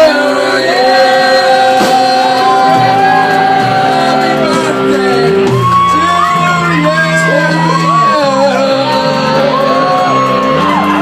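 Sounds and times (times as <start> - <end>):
live rock band playing: 0.0 - 11.0
person singing: 0.0 - 11.0.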